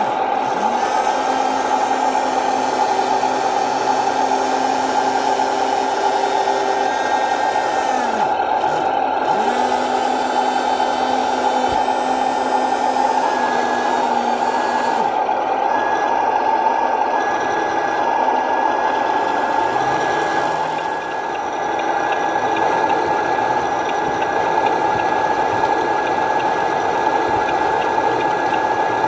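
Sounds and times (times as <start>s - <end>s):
small electric motors whirring: 0.0s - 28.9s.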